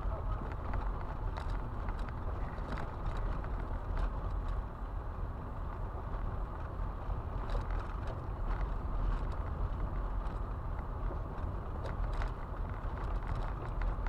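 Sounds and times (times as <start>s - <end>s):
stones clicking against car: 0.3s - 4.8s, 6.6s - 14.0s.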